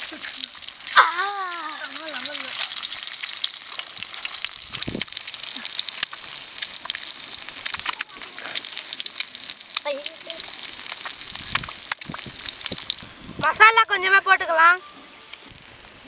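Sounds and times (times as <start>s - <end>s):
eggs sizzling and popping in oil: 0.0s - 13.2s, 15.4s - 16.0s.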